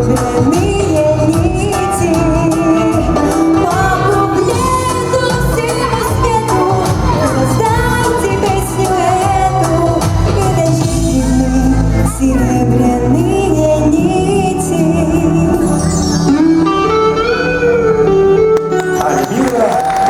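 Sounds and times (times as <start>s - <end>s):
girl singing pop song: 0.0s - 16.8s
backing track with steady beat: 0.0s - 19.5s.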